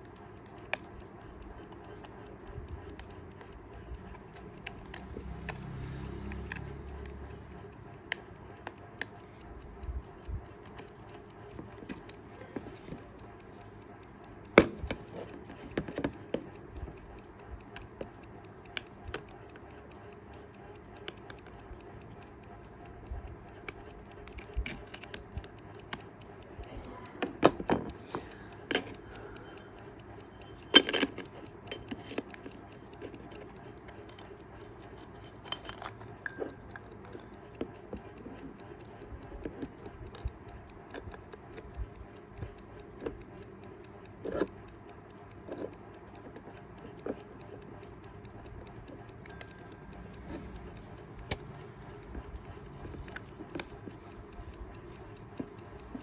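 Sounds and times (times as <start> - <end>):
alarm clock ticking: 0.0 - 56.0.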